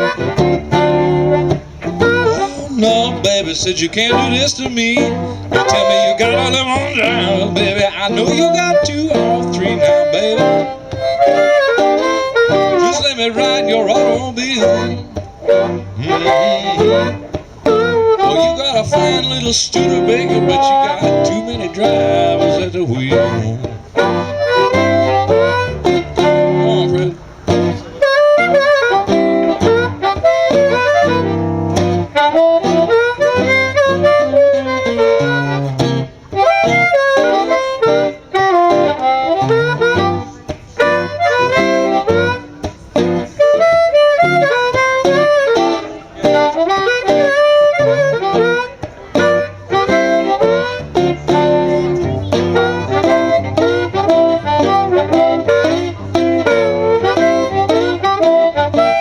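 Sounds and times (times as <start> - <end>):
blues harmonica solo: 0.0 - 59.0
rhythmic guitar accompaniment: 0.0 - 59.0.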